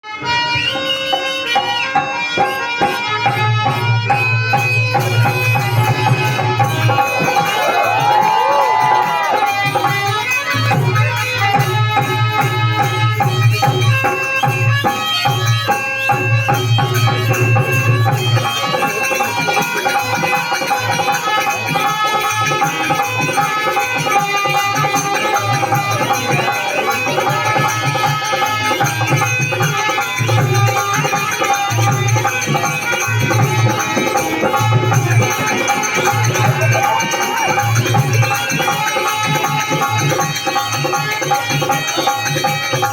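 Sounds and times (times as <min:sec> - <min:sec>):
hand drum beat: 0:01.9 - 0:42.9.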